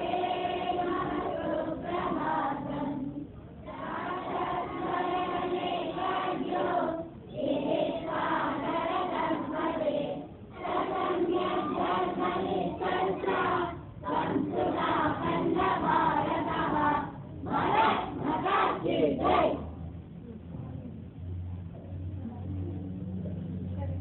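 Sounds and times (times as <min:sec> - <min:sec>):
children singing in unison: 0:00.0 - 0:19.7.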